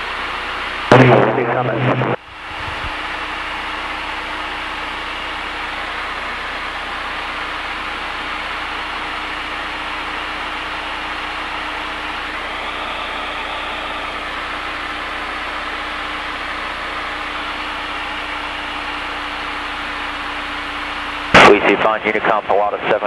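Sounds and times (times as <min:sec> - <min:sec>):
airplane engine and propeller drone: 0:00.0 - 0:23.0.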